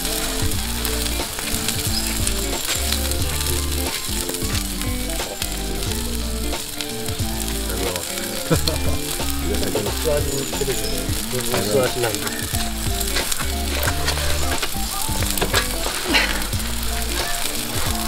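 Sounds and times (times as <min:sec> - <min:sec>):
background music with bass line: 0:00.0 - 0:18.0
meat sizzling over charcoal grill: 0:00.0 - 0:18.0.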